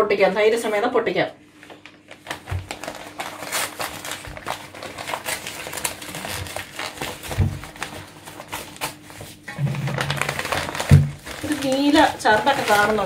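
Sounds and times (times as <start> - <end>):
paper wrapping crinkling: 1.6 - 13.0.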